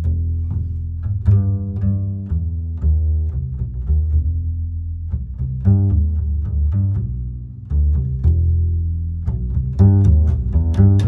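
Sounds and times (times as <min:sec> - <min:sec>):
deep bass string notes: 0:00.0 - 0:11.0.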